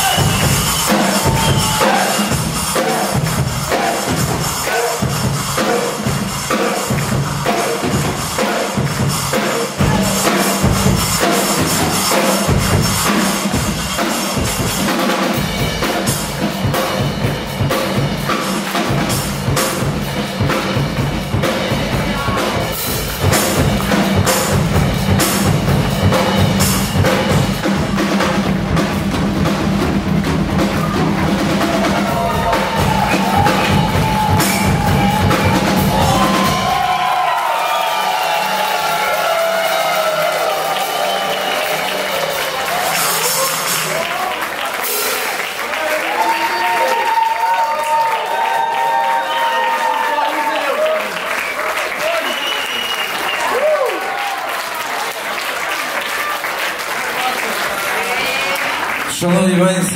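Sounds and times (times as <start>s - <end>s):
loud music with drum beat: 0.0s - 50.1s.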